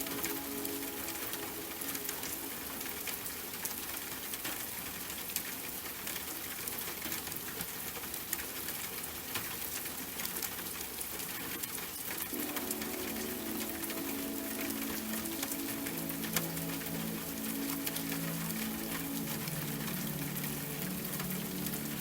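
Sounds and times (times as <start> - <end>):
rain drops ticking on hard surface: 0.0 - 22.0.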